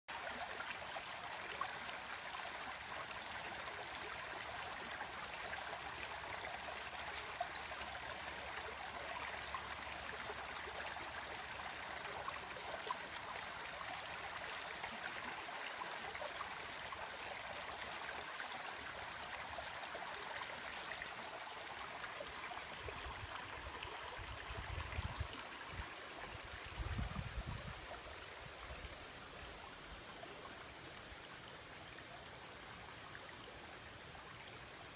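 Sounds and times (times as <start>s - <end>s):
creek water over rocks: 0.1s - 34.9s.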